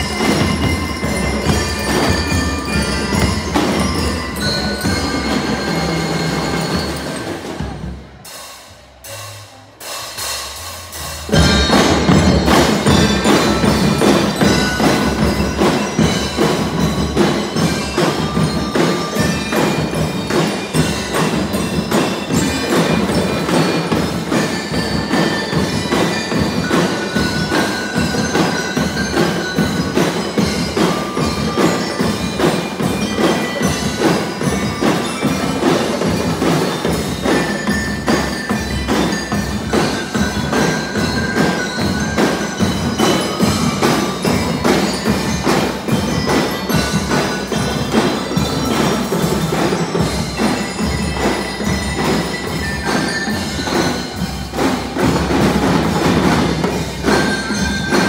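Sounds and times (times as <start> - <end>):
bell lyres melody: 0.0 - 58.0
steady drumbeat: 0.0 - 58.0.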